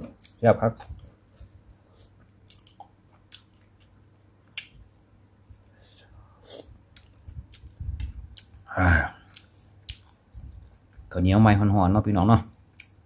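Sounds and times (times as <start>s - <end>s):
mouth clicks and smacks: 0.0s - 5.6s, 6.5s - 11.1s, 12.7s - 13.0s
person chewing food: 0.0s - 11.2s, 12.6s - 13.0s.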